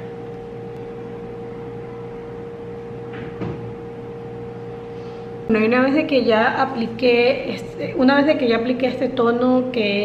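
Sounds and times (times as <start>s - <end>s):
steady mid-pitched hum: 0.0s - 10.0s.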